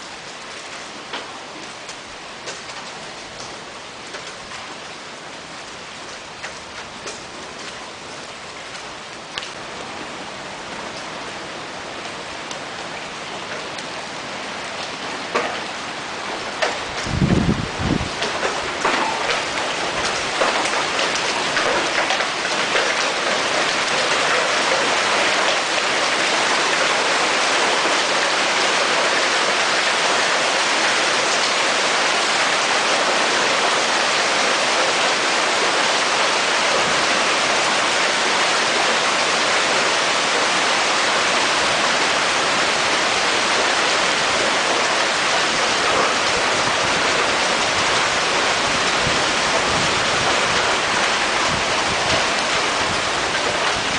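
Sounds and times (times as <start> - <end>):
heavy rain downpour: 0.0 - 53.9.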